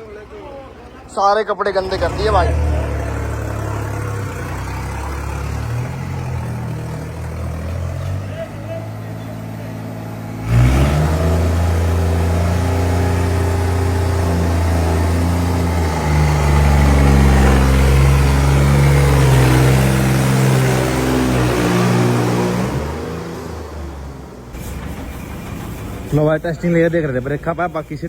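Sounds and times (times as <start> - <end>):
tractor diesel engine revving: 0.0 - 28.0.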